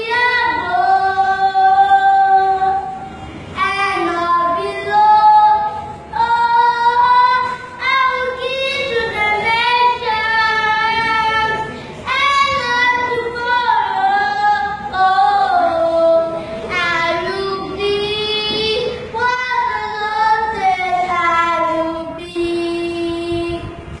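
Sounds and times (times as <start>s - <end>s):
boy singing unaccompanied: 0.0s - 3.0s, 3.6s - 23.8s.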